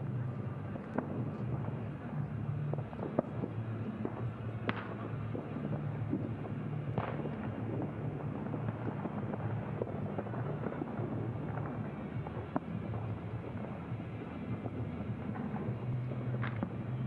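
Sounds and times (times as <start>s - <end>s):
distant fireworks pops and bangs: 0.0s - 17.0s
steady low rumble: 0.0s - 17.0s.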